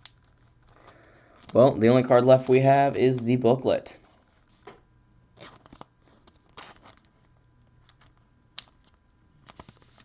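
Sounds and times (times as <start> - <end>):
trading cards rustling: 0.0 - 4.8, 5.4 - 10.0.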